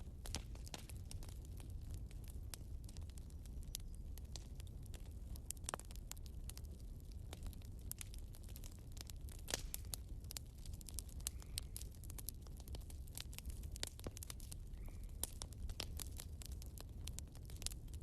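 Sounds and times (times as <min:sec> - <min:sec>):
firewood crackling and popping: 0:00.0 - 0:18.0
low steady rumble of fire: 0:00.0 - 0:18.0.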